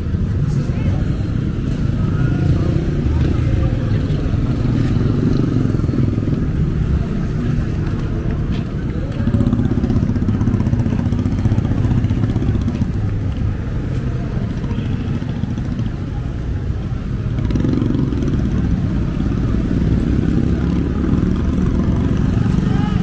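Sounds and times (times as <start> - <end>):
motorcycle engines passing: 0.0 - 23.0.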